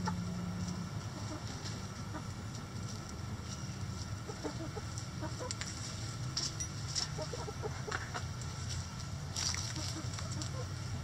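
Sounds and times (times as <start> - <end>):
hens clucking: 0.0 - 3.0, 3.9 - 6.0, 6.9 - 11.0.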